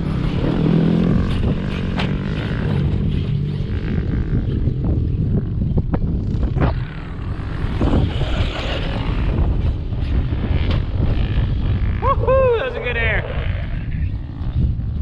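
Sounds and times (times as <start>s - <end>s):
heavy low rumble: 0.0s - 15.0s.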